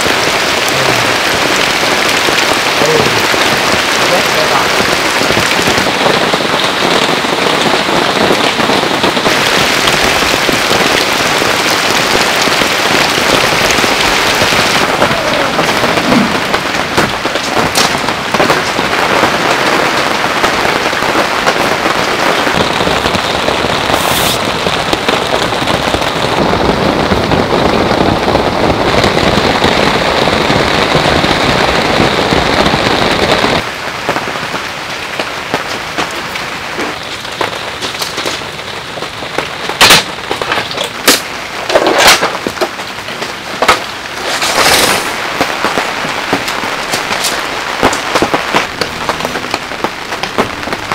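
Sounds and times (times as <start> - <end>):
heavy rain on a tent: 0.0 - 50.9.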